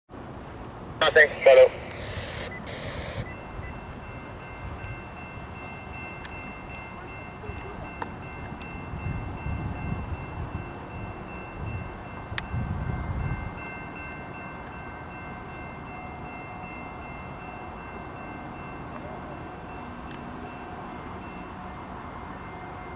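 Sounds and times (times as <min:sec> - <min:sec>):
railway crossing bell ringing: 0:01.0 - 0:22.9.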